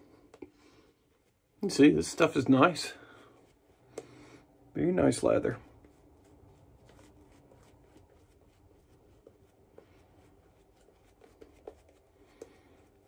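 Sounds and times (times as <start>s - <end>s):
shaving brush swishing: 0.9s - 13.0s.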